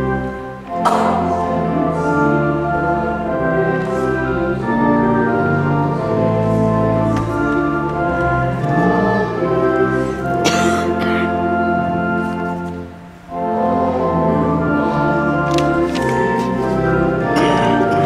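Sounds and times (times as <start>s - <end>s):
church organ playing chords: 0.0s - 18.0s.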